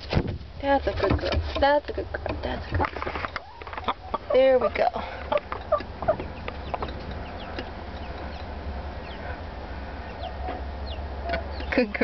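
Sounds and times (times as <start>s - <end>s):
hen clucking: 0.7s - 12.0s.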